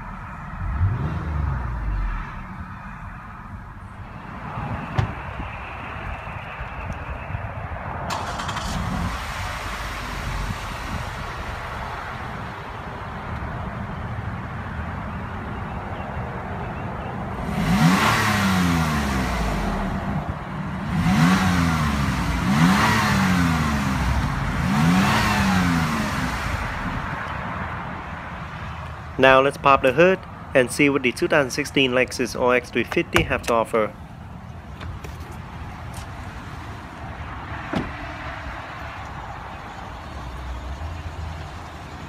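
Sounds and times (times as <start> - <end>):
car engine idling and revving: 0.0 - 29.2, 33.0 - 42.0.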